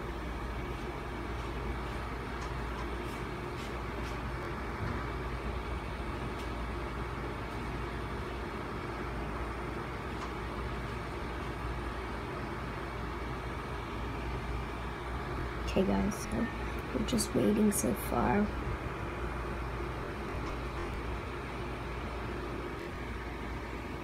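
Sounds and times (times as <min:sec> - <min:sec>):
low rumbling household hum: 0:00.0 - 0:24.0.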